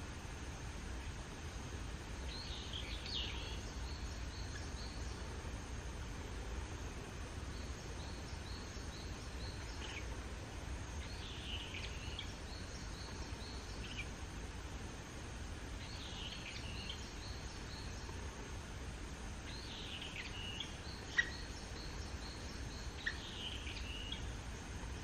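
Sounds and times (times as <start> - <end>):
small birds chirping: 0.5 - 25.0.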